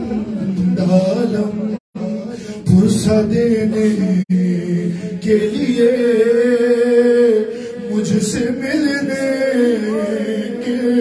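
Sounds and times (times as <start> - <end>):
man chanting a mourning lament: 0.4 - 11.0.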